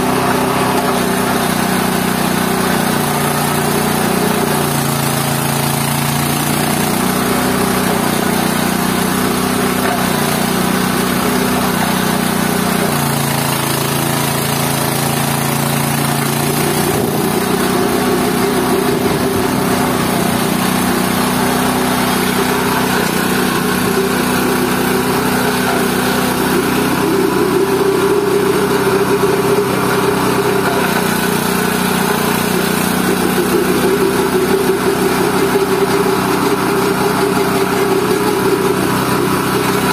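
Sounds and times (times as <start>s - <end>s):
waste pulper motor hum: 0.0s - 39.9s.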